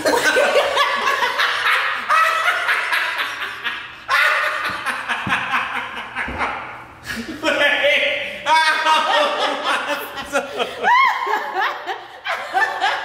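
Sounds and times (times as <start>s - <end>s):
group of people laughing: 0.0s - 7.5s, 8.5s - 13.0s.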